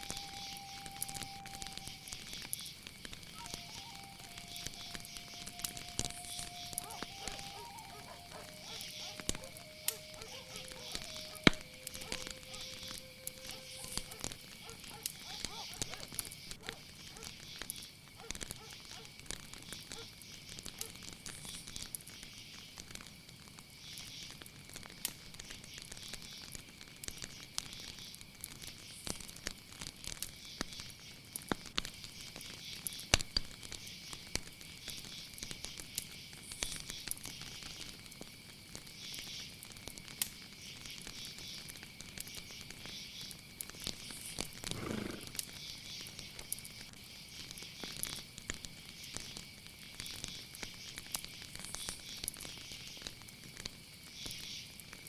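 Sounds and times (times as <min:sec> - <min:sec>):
insects chirring: 0:00.0 - 0:55.0
rhythmic pulsing insect calls: 0:00.0 - 0:55.0
small crackling clicks: 0:00.0 - 0:55.0.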